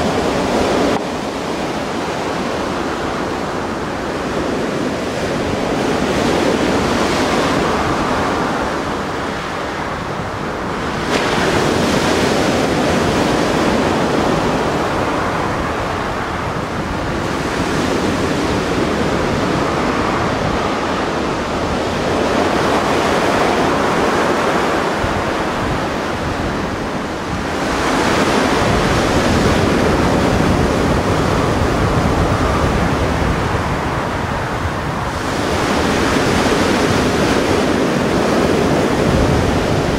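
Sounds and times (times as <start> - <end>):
surf breaking on shore: 0.0 - 39.9
wind rumbling on microphone: 0.0 - 39.9.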